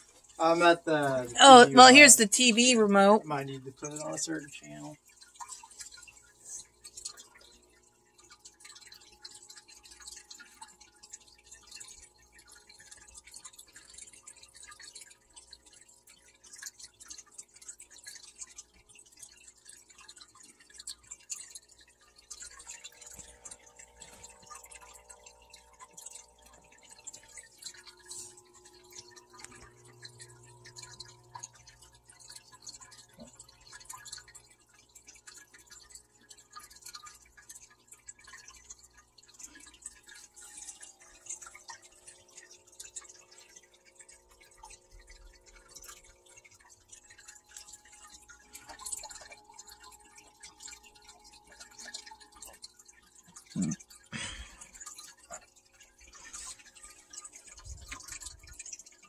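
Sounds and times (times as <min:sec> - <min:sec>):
low steady hum: 0:00.0 - 0:17.2, 0:20.8 - 0:59.0
water dripping and trickling: 0:00.0 - 0:59.0.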